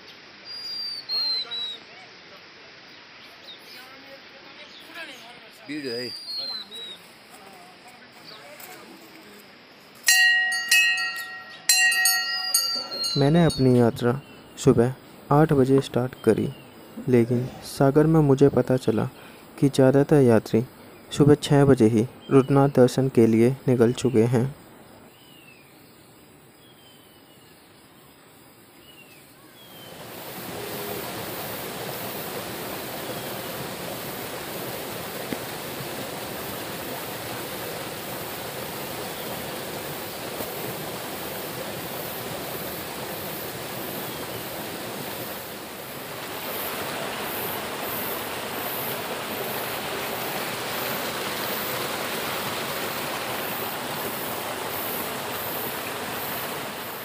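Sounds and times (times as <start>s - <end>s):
stream rushing over stones: 0.0s - 24.7s, 29.4s - 57.0s.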